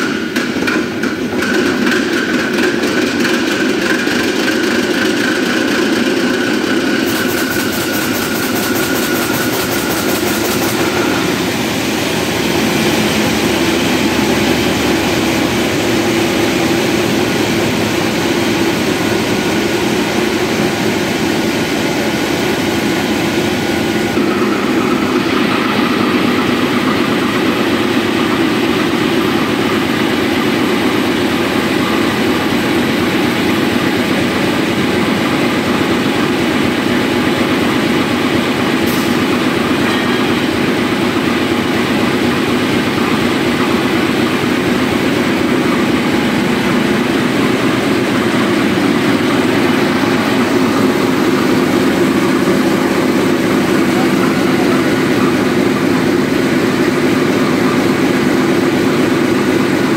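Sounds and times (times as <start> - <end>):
diesel generator engine running: 0.0 - 59.9.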